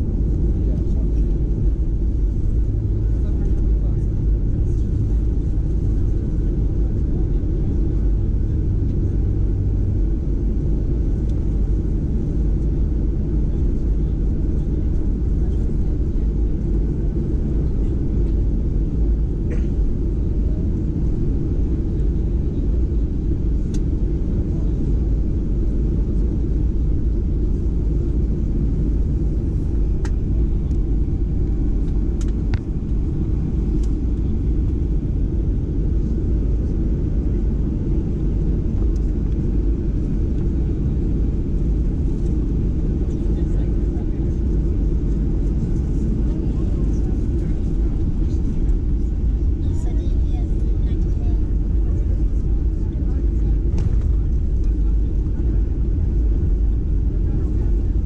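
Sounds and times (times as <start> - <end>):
airplane taxiing rumble: 0.0 - 58.0
low hum: 0.0 - 58.0.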